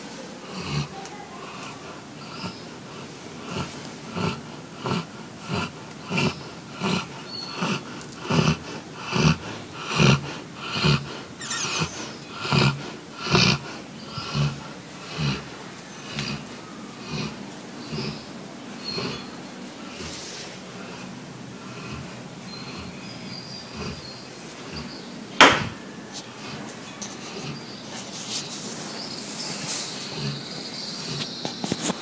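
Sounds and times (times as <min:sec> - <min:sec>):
dogs snoring: 0:00.0 - 0:32.0.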